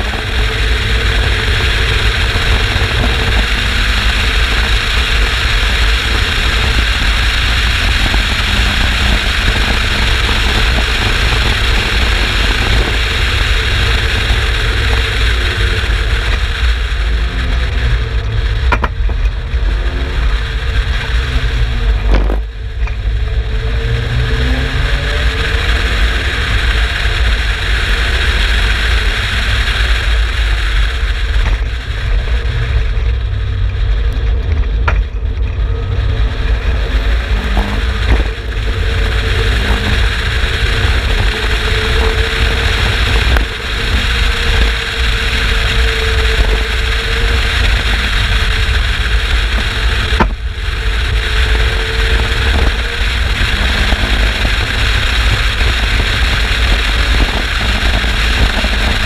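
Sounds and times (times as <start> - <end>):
race car engine: 0.0 - 59.0
wind noise at speed: 0.0 - 59.0.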